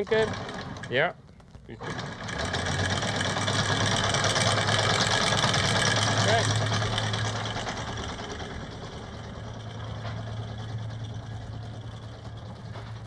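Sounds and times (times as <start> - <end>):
anchor windlass motor hum: 0.0 - 13.0
wind: 0.0 - 13.0.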